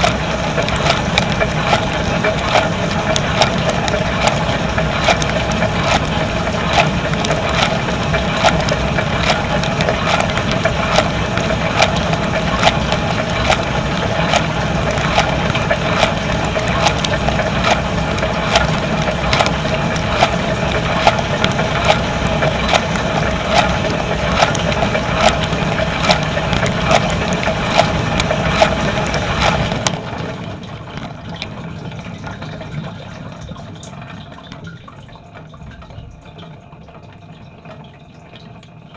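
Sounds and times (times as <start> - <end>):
water spraying and splashing: 0.0 - 36.4
dishwasher pump hum: 0.0 - 38.9.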